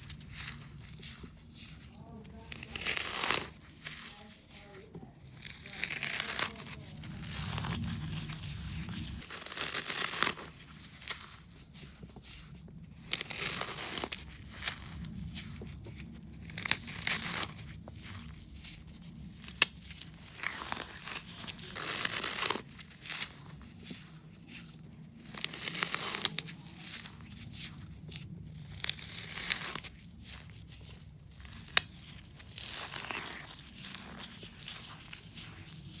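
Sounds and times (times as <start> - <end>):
wet floral foam crunching: 0.0 - 36.0.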